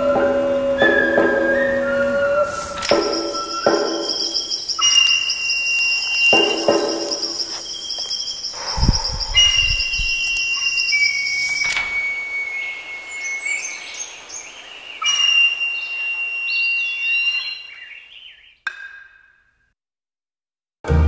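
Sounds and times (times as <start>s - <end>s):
high whistle-like tone: 0.0s - 18.0s
birds chirping: 0.0s - 18.8s.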